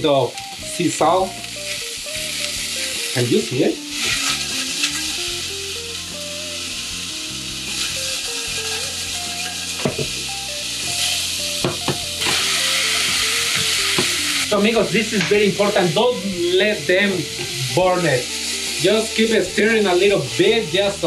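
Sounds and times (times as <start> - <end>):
food sizzling in a pan: 0.0 - 21.0
soft background music: 0.0 - 21.0.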